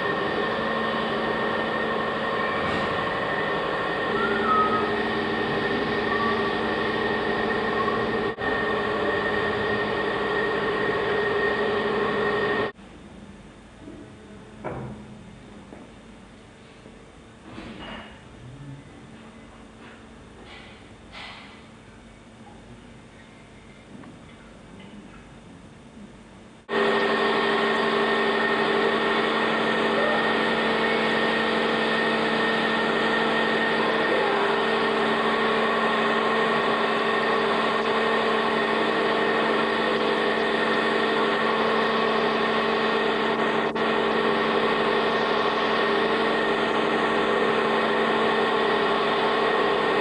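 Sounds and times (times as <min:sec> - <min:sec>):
loud mechanical hum: 0:00.0 - 0:50.0.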